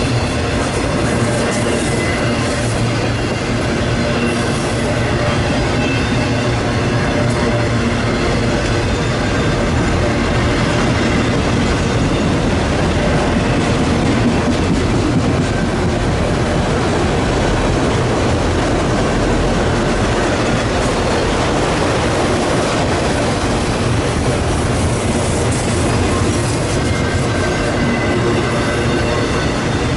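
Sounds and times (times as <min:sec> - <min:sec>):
freight train wheels rumbling: 0:00.0 - 0:29.9.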